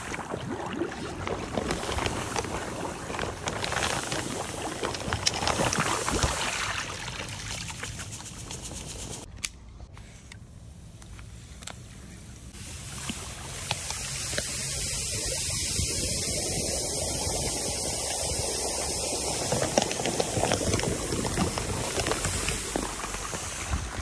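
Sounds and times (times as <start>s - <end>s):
salt pouring into water: 0.0s - 9.3s, 12.6s - 24.0s.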